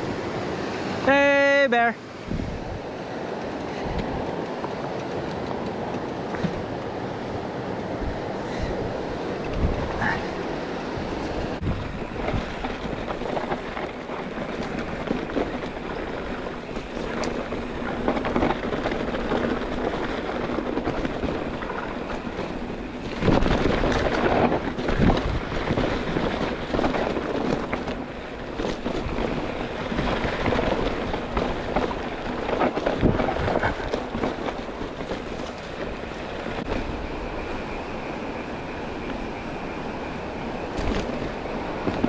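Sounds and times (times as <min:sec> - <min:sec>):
bike tyre rumble: 0:00.0 - 0:42.0
wind on microphone: 0:02.1 - 0:42.0
bike knocking and rattling: 0:03.2 - 0:07.0, 0:07.8 - 0:42.0.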